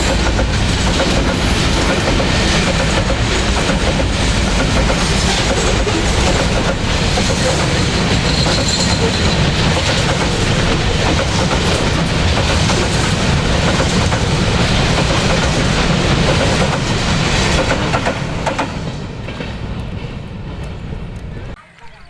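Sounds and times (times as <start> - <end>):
train wheels clattering: 0.0 - 21.6.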